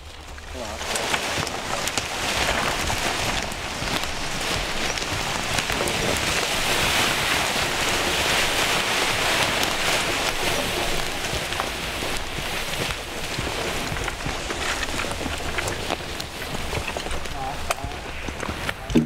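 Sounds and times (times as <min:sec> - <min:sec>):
log scraping through leaf litter: 0:00.0 - 0:18.9
twigs crackling: 0:00.0 - 0:19.0.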